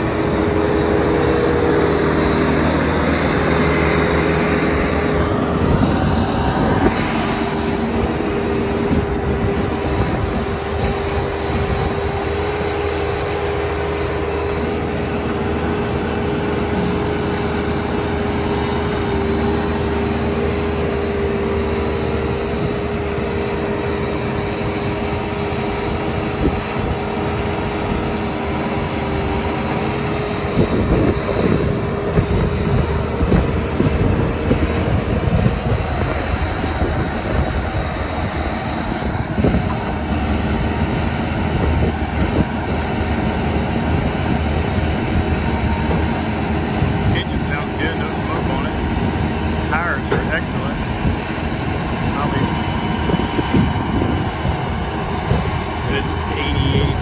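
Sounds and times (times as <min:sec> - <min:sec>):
diesel engine under load: 0:00.0 - 0:57.0
steady whine: 0:00.0 - 0:57.0.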